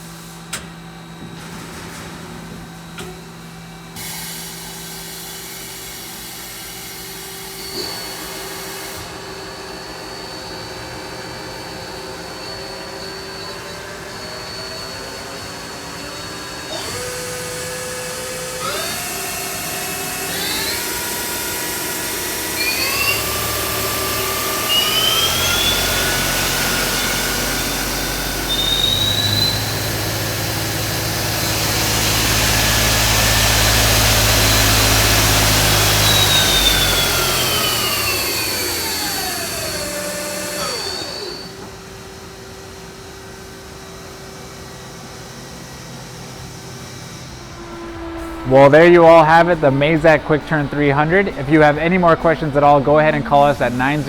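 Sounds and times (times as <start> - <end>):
lathe spindle whining: 2.9 - 54.0.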